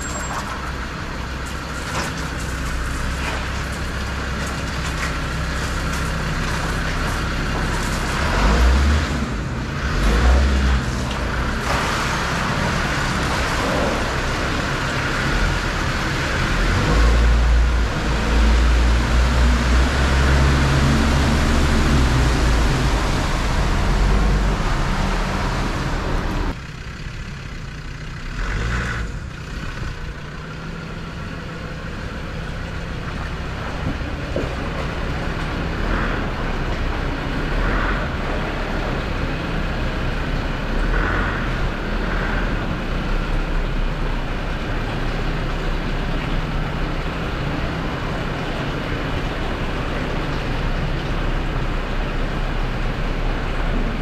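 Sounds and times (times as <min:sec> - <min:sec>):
diesel engine wading through water: 0:00.0 - 0:54.0.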